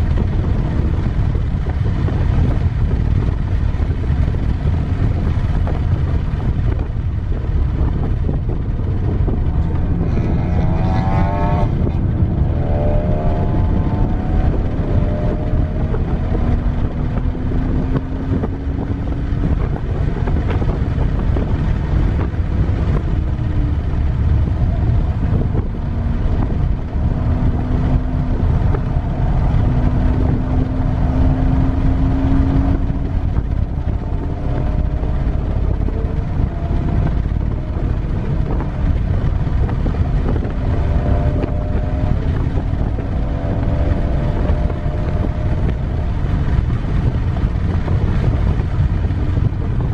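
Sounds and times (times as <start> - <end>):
car engine pulling hard: 0.0 - 49.9
road rumble: 0.0 - 49.9
wind noise: 0.0 - 49.9.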